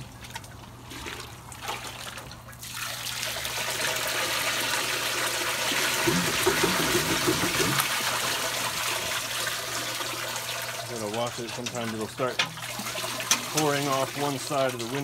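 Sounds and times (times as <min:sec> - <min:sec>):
liquid pouring through sieve: 0:00.3 - 0:15.0.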